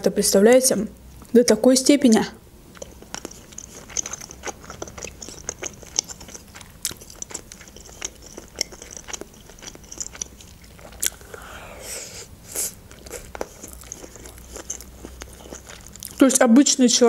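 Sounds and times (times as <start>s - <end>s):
person chewing with wet smacks: 2.1s - 11.5s, 12.2s - 16.5s.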